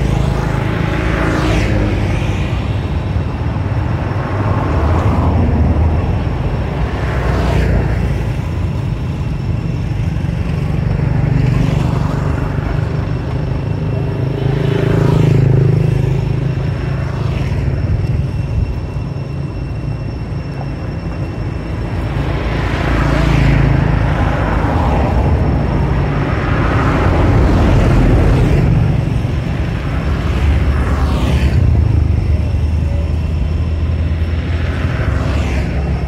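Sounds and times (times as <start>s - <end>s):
passing vehicles' engine noise: 0.0s - 36.0s
steady low traffic rumble: 0.0s - 36.0s.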